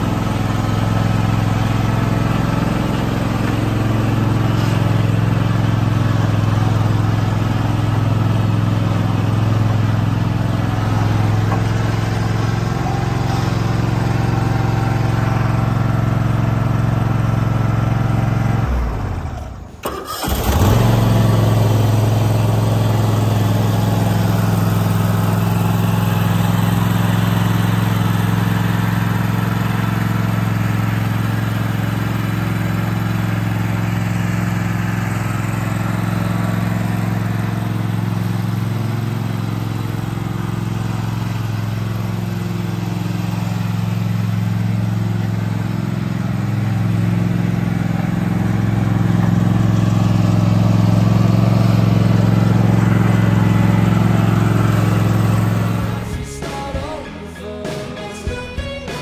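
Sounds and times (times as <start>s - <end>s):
lawn mower engine humming: 0.0s - 56.6s.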